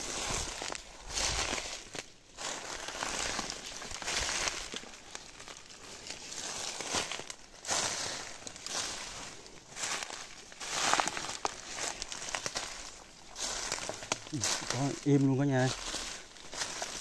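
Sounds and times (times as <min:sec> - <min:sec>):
footsteps crunching on dry leaves: 0:00.0 - 0:17.0.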